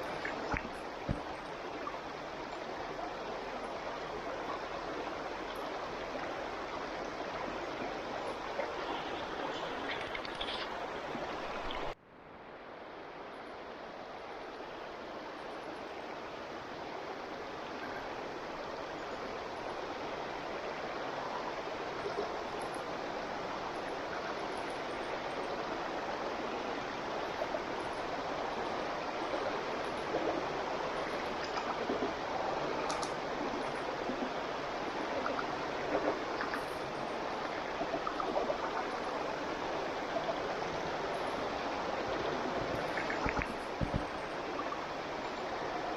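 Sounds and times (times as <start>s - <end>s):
flowing stream rushing: 0.0s - 45.9s.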